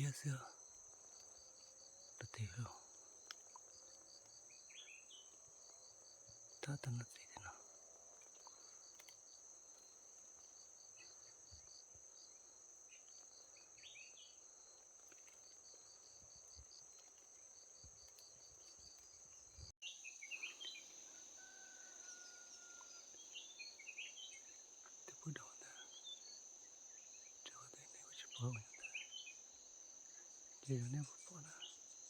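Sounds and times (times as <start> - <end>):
insects buzzing and chirping: 0.0 - 32.0.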